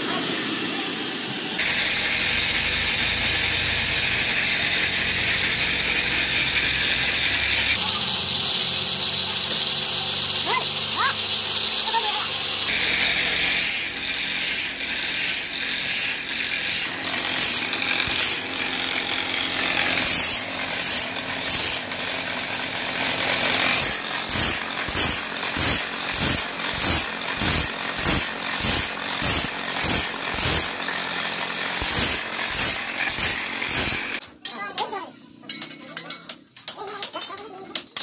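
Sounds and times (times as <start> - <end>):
grinding wheel rasping saw teeth: 0.4 - 34.2.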